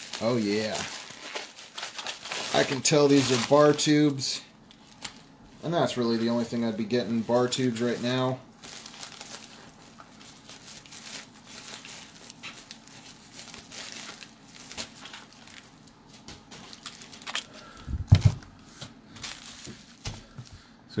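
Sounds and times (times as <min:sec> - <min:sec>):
bubble wrap crinkling: 0:00.0 - 0:20.5.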